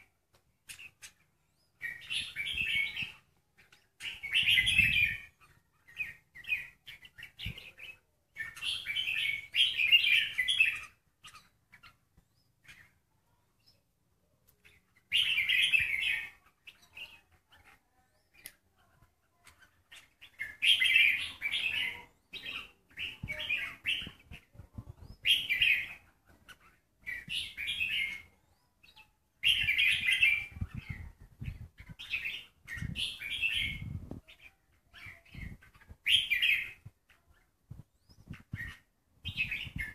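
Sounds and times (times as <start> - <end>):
bird singing chirpy phrases: 0.0 - 39.9.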